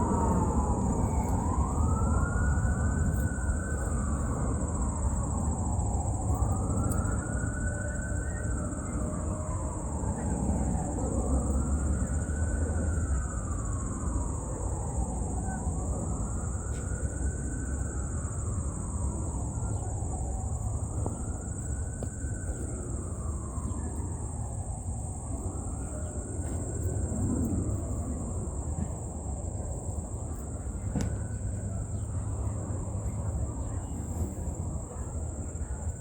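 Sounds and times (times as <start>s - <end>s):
distant siren wailing: 0.0s - 36.0s.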